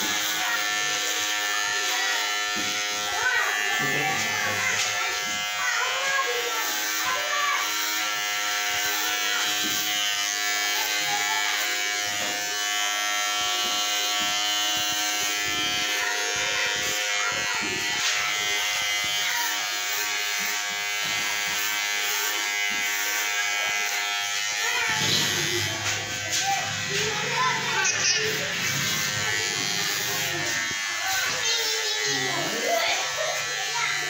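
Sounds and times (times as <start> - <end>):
electric hair clippers buzzing: 0.0 - 34.0.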